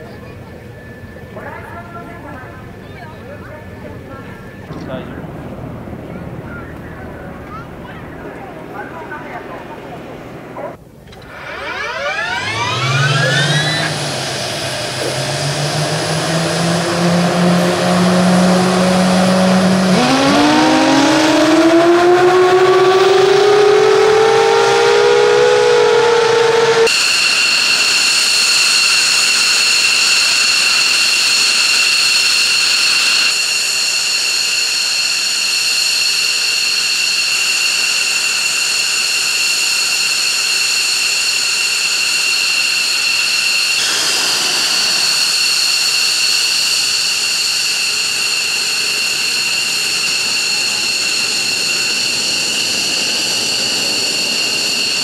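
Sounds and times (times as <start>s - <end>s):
turbine whine at idle: 0.0s - 55.0s
jet engines spooling up: 3.7s - 55.0s.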